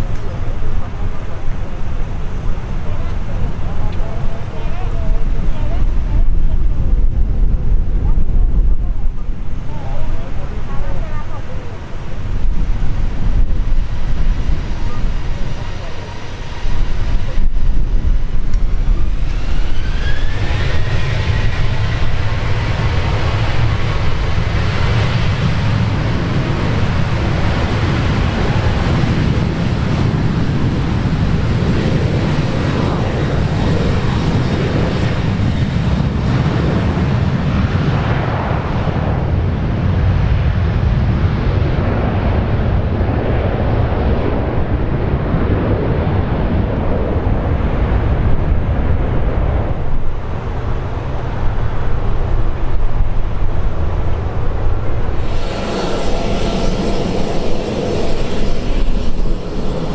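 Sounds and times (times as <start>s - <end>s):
jet engines roaring at takeoff: 0.0s - 59.9s.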